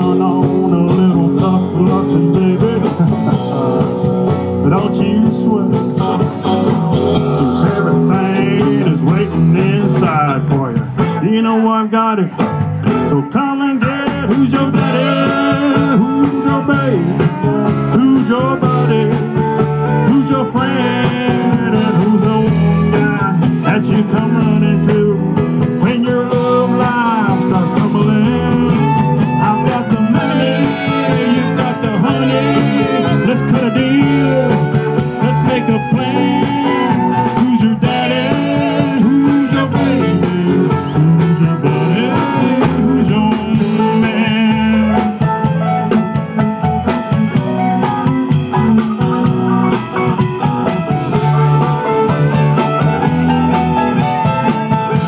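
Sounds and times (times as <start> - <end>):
acoustic guitar: 0.0 - 55.0
drums: 0.0 - 55.0
electric guitar: 0.0 - 55.0
keyboard: 0.0 - 55.0.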